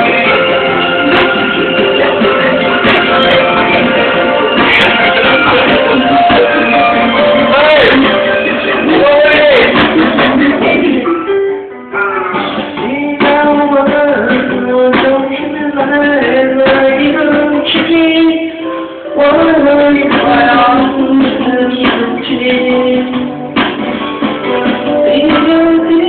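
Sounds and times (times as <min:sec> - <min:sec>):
man singing into a microphone: 0:00.0 - 0:23.5, 0:24.9 - 0:26.0
pop backing track: 0:00.0 - 0:26.0.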